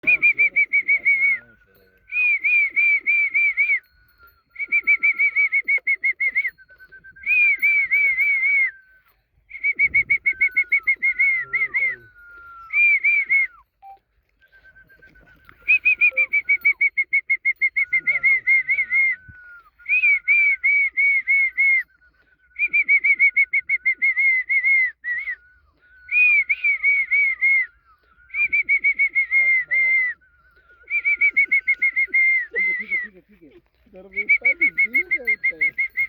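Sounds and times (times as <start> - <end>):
bird whistling calls: 0.0 - 36.0.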